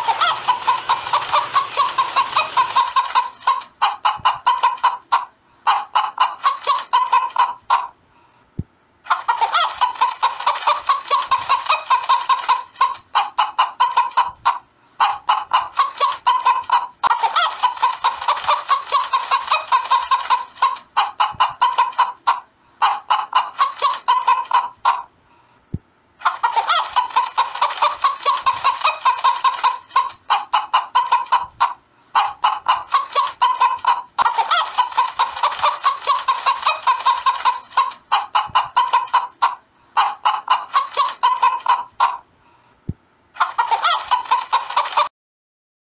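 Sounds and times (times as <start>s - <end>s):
hen cackling: 0.0s - 8.0s, 9.1s - 25.1s, 26.2s - 42.2s, 43.4s - 45.1s.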